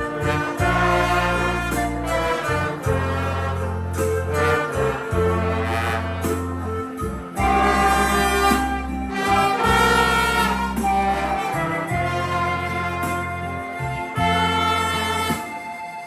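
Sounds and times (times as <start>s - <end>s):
steady bass line: 0.0s - 15.8s
brass and wind band playing: 0.0s - 16.0s.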